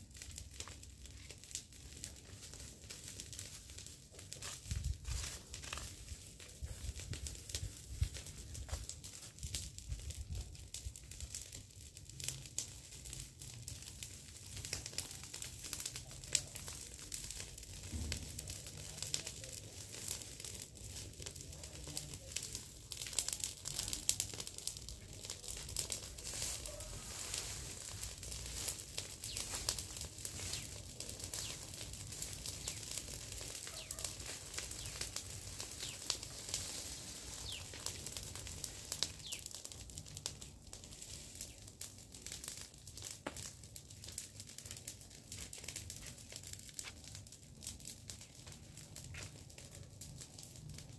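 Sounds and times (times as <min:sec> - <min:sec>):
burning leaves crackling: 0:00.0 - 0:50.9.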